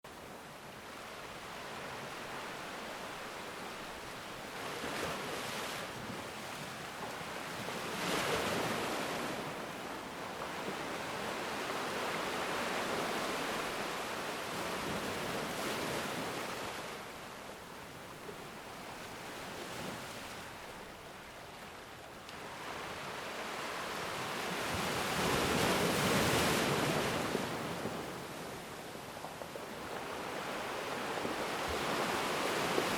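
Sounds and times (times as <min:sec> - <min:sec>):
ocean surf breaking on beach: 0:00.2 - 0:18.0, 0:21.5 - 0:32.9.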